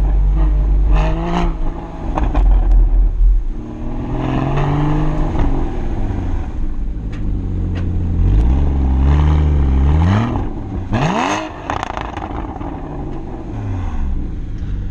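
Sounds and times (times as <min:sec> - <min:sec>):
exhaust cracks: 0:00.0 - 0:14.9
sports car engine revving: 0:00.0 - 0:14.9.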